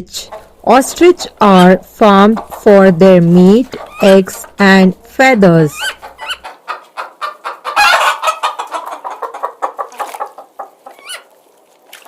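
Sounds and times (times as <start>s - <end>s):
chickens clucking and squawking: 0.2s - 12.0s.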